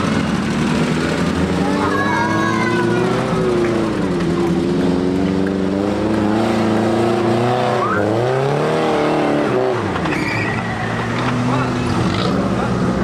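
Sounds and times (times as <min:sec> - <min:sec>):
engine working under load: 0:00.0 - 0:13.0.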